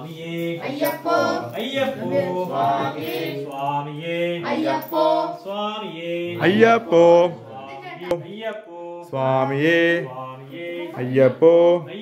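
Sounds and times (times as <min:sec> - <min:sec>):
men chanting devotional calls: 0:00.0 - 0:12.0.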